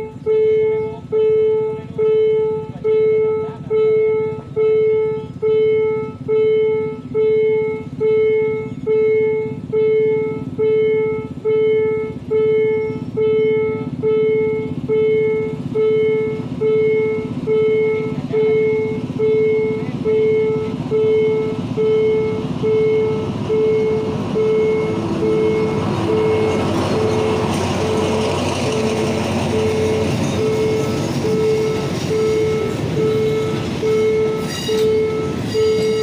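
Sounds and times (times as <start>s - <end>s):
level crossing warning bell ringing: 0.0s - 36.0s.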